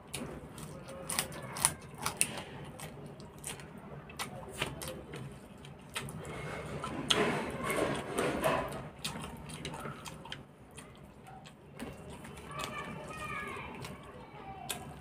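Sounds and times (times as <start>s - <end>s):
person chewing crunchy greens: 0.0s - 15.0s.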